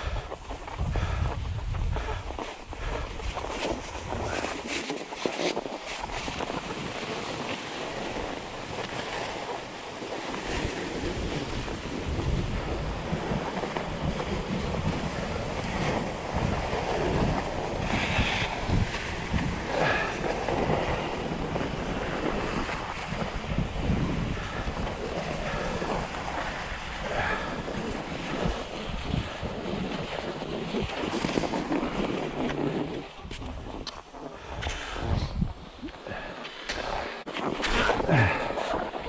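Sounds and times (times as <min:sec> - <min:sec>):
skis gliding hiss: 0:00.0 - 0:39.0
wind buffeting microphone: 0:00.0 - 0:39.0.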